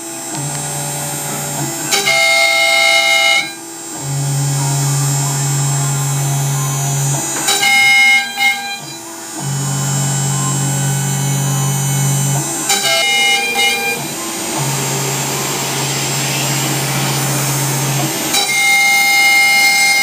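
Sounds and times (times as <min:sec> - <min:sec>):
held instrumental chords: 0:00.0 - 0:20.0.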